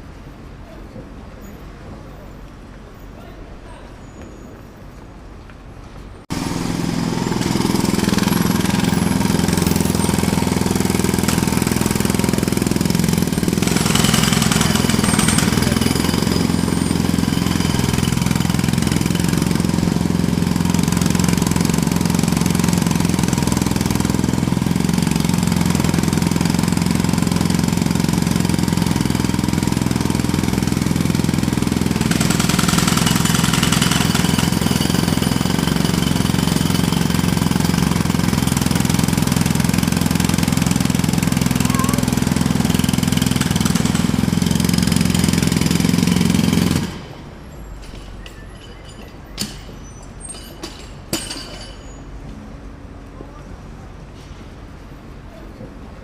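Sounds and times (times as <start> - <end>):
jackhammer hammering: 6.3 - 52.0.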